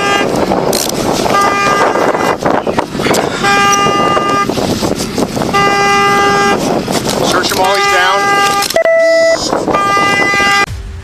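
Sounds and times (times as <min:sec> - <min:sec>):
vehicle horn blasts: 0:00.0 - 0:00.6, 0:01.2 - 0:04.7, 0:05.4 - 0:10.7
continuous noisy background: 0:00.0 - 0:11.0.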